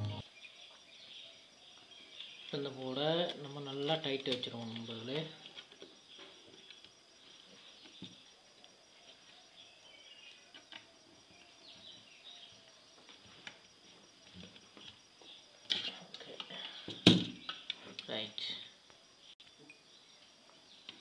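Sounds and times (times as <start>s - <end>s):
faint chirping: 0.0s - 21.0s.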